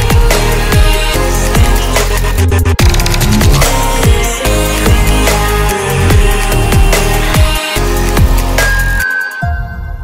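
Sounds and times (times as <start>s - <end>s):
electronic music with heavy beat: 0.0s - 10.0s.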